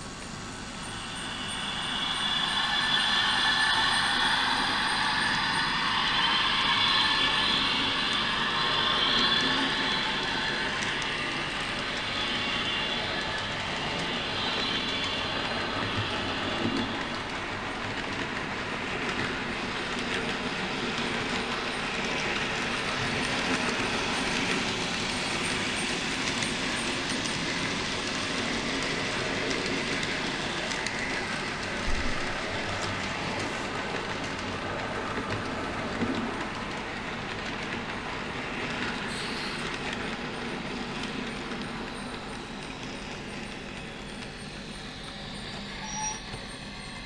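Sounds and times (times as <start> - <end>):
model train wheels on track: 0.0 - 47.0.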